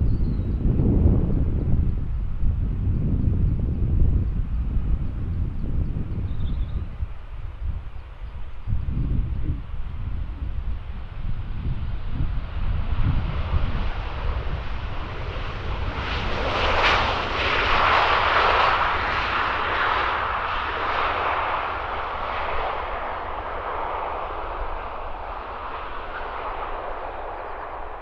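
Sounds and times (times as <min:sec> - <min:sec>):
jet engines landing: 0:00.0 - 0:28.0
wind buffeting microphone: 0:00.0 - 0:28.0.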